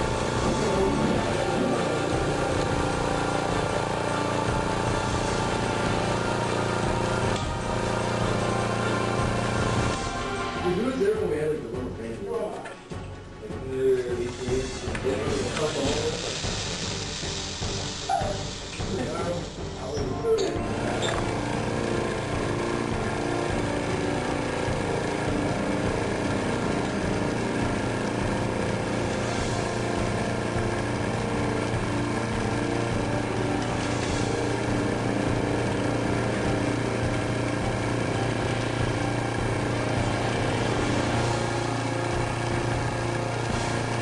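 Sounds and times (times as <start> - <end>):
vacuum pump motor hum: 0.0 - 11.6, 14.2 - 44.0.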